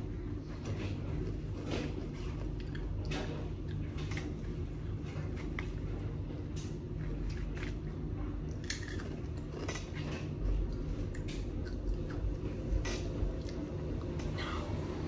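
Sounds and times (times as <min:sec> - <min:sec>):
chewing with crunches: 0:00.0 - 0:15.0
low background hum: 0:00.0 - 0:15.0.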